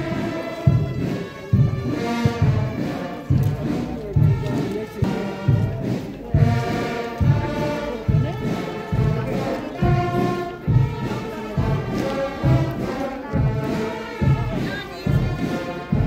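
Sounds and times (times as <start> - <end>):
brass band music: 0.0 - 16.0.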